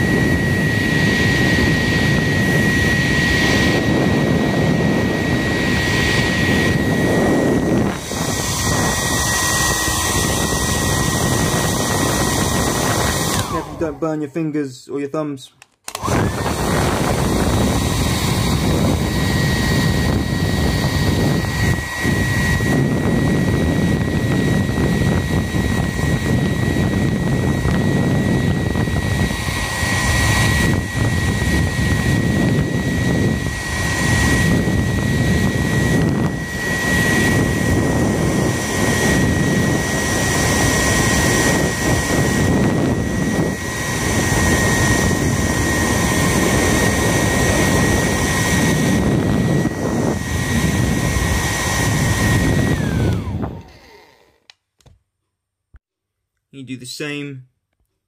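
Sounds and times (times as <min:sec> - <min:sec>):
hairdryer running: 0:00.0 - 0:14.2, 0:15.8 - 0:55.0.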